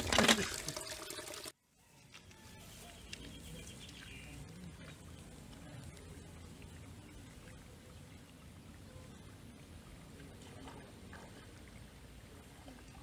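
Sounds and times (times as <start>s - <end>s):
water splashing and sloshing: 0.0s - 1.6s, 2.9s - 13.0s.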